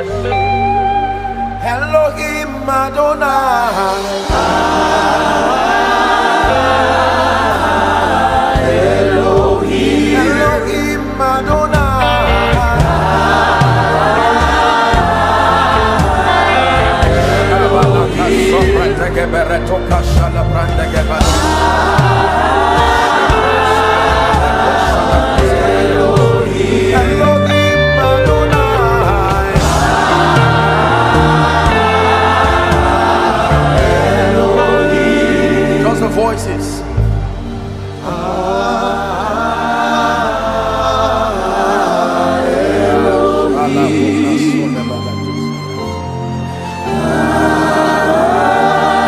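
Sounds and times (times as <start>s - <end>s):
band accompaniment: 0.0s - 49.0s
choir singing: 3.0s - 49.0s.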